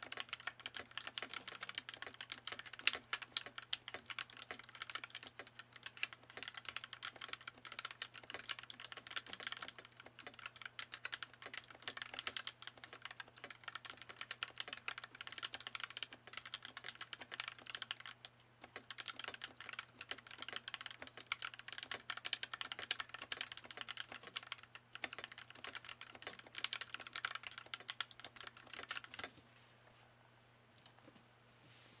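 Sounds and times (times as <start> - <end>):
fast mechanical keyboard typing: 0.0 - 29.3.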